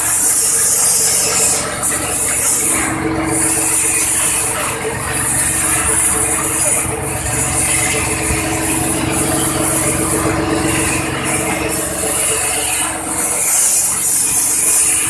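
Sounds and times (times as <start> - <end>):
small engine drone: 0.0 - 15.0.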